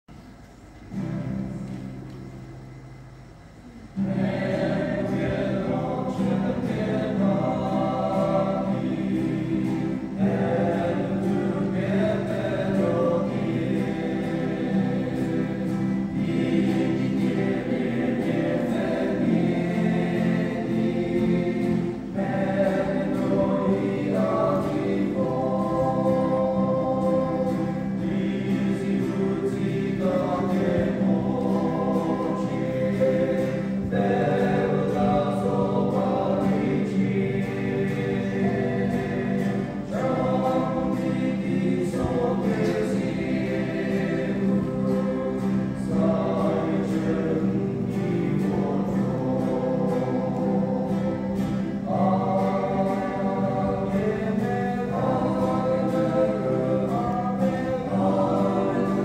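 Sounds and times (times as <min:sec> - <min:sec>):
acoustic guitar: 0:00.0 - 0:59.0
men's choir singing a hymn: 0:03.9 - 0:59.0.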